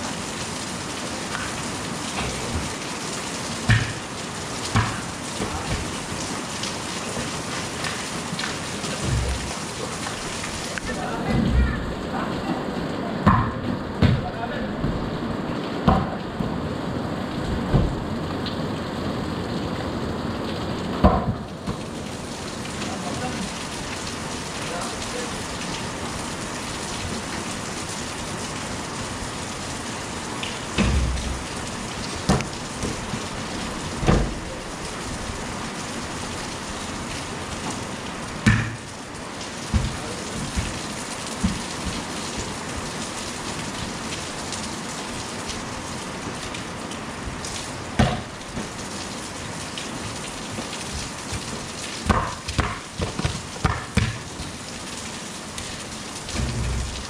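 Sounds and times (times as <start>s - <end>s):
heavy rain on concrete: 0.0s - 57.0s.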